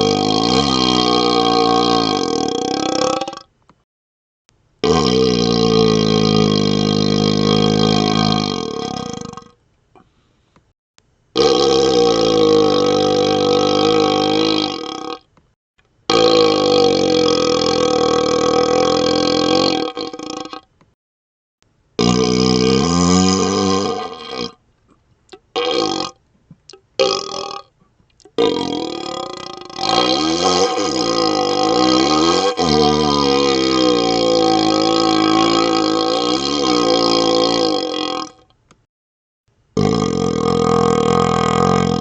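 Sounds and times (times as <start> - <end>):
hollow burps through a tube: 0.0 - 3.5, 4.8 - 10.1, 11.4 - 15.3, 16.1 - 20.8, 22.0 - 38.6, 39.8 - 42.0.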